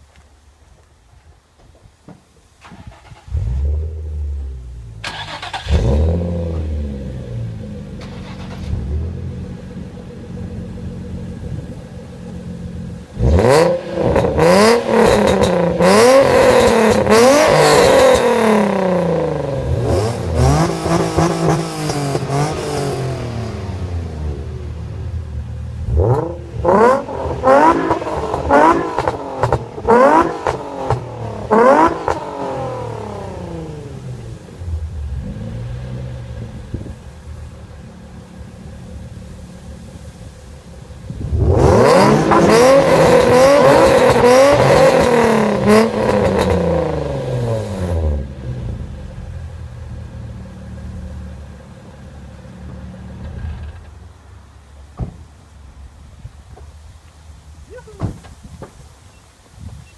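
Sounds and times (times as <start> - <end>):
car engine revving and idling: 2.8 - 54.8.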